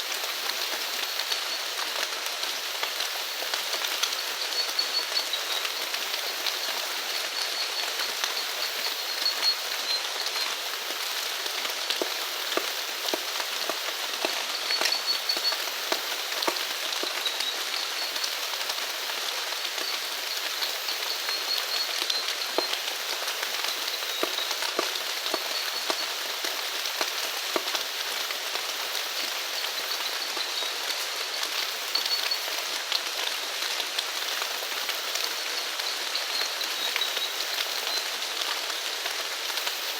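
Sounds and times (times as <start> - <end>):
rain falling: 0.0 - 39.9
raindrops ticking: 2.8 - 39.9.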